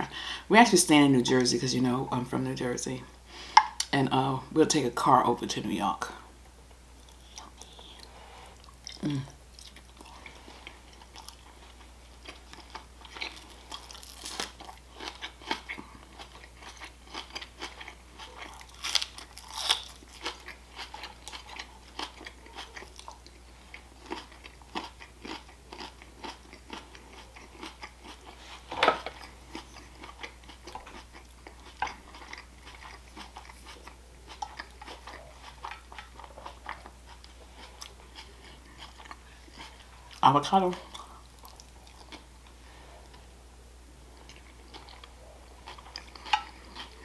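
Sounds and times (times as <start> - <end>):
faint low hum: 0.0 - 47.0
crunching and chewing food: 7.0 - 43.3, 44.0 - 47.0.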